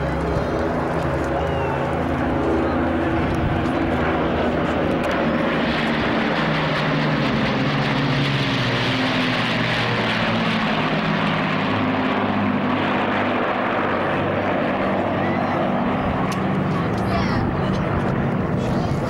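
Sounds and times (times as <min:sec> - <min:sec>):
propeller planes droning past: 0:00.0 - 0:19.0.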